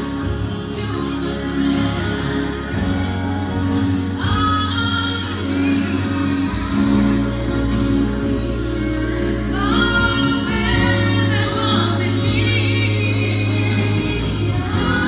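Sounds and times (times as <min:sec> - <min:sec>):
bass line: 0:00.0 - 0:15.0
keyboard: 0:00.0 - 0:15.0
woman singing: 0:00.0 - 0:15.0.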